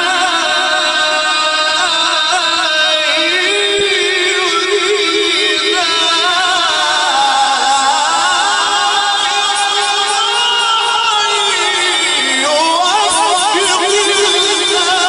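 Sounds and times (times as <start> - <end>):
man reciting melodic chant: 0.0 - 15.0.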